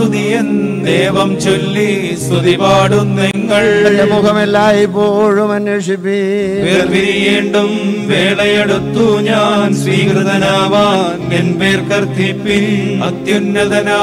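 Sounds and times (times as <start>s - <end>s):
voices chanting a funeral hymn: 0.0s - 14.0s.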